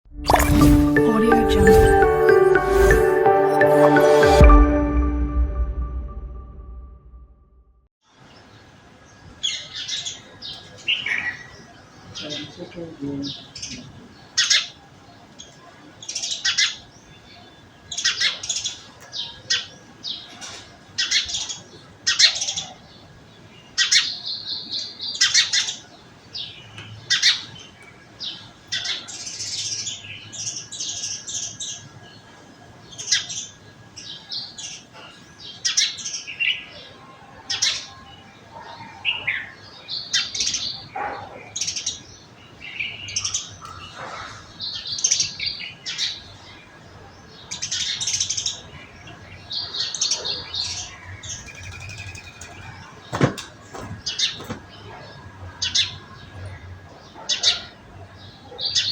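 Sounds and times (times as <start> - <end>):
small birds chirping: 9.4 - 58.9.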